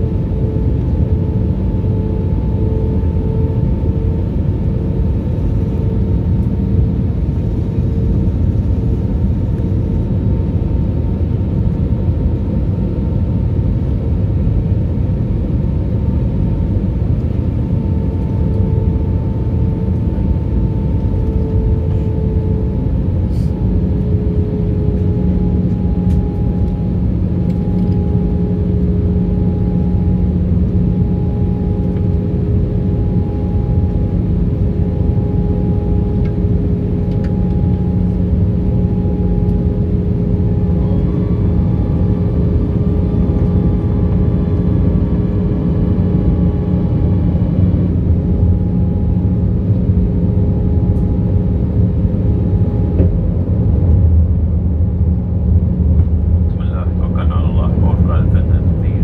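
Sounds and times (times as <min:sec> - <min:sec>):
engine hum: 0:00.0 - 0:59.0
jet cabin engine rumble: 0:00.0 - 0:59.0.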